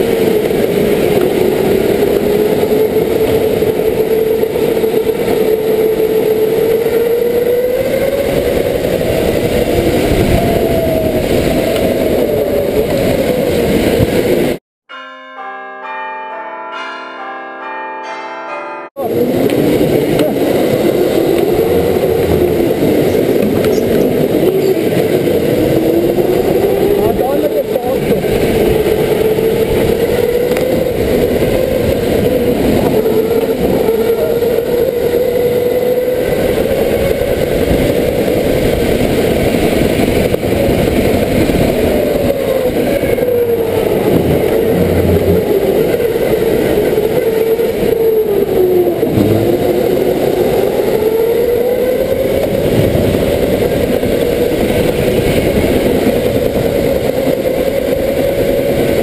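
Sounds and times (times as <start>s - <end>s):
go-kart motor running: 0.0s - 14.6s, 19.0s - 59.0s.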